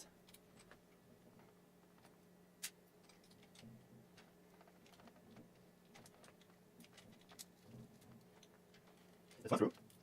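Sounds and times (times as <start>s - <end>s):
small parts and tools clicking: 0.0s - 0.8s, 1.4s - 10.0s
faint steady hum: 0.0s - 10.0s.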